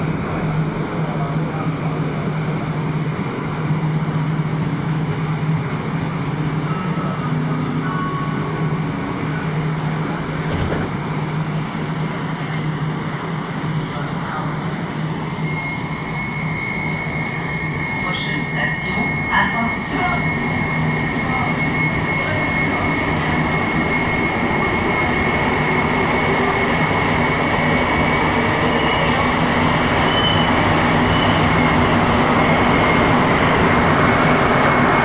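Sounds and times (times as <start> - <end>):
high traction motor whine: 0.0 - 35.0
train equipment humming: 0.0 - 35.0.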